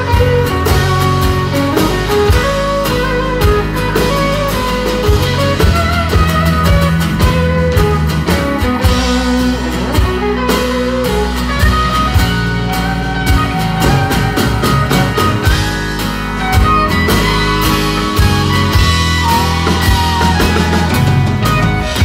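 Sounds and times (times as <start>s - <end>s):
bass line: 0.0s - 22.0s
drums: 0.0s - 22.0s
electric guitar lead solo: 0.0s - 22.0s.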